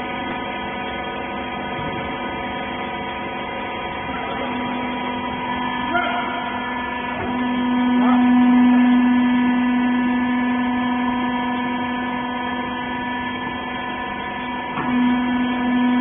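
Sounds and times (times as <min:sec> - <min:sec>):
hydraulic power unit humming: 0:00.0 - 0:16.0.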